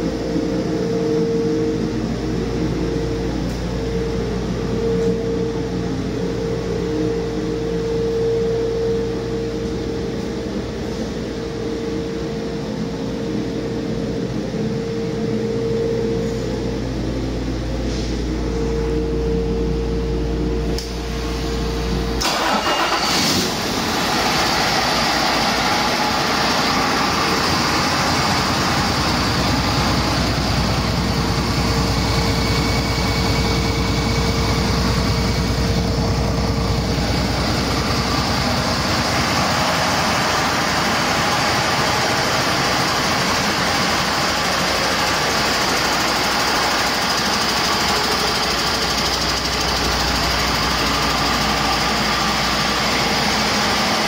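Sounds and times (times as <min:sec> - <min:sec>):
diesel engine starting and idling: 0:00.0 - 0:54.0.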